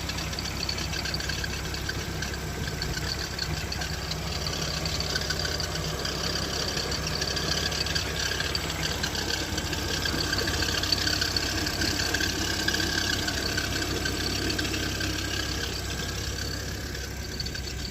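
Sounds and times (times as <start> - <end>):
engine idling: 0.0 - 17.9.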